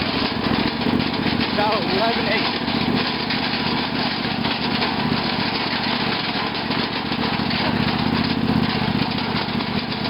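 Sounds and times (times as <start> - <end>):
lawn tractor engine running: 0.0 - 10.0.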